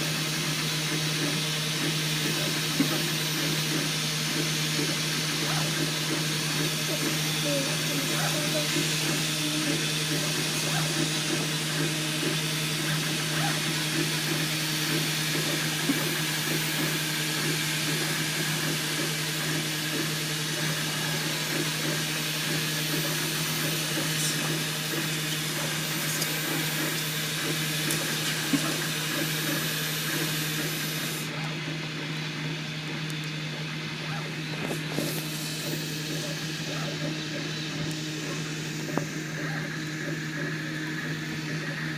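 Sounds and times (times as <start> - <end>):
fan hum: 0.0 - 41.9
stepper motors whirring: 0.0 - 41.9.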